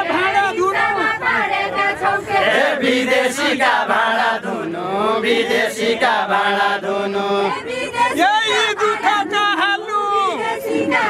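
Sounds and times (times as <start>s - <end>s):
men singing folk song: 0.0s - 11.0s.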